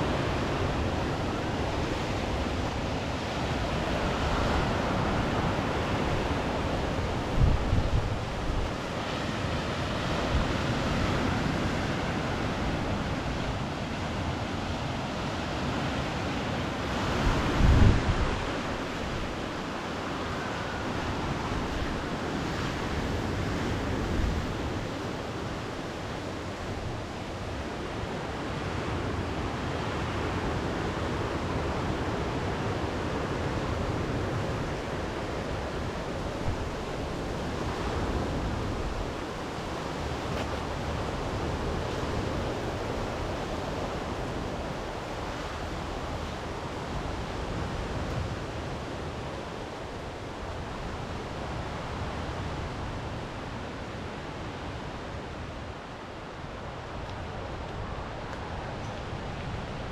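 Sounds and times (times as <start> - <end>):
sea surf rolling onto shore: 0.0 - 59.9.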